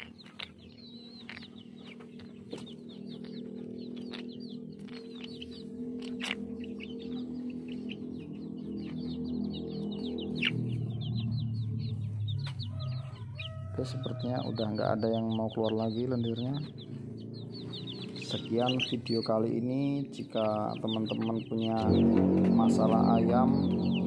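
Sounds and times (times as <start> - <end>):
chickens clucking and peeping: 0.0 - 24.0
steady low hum: 0.0 - 24.0.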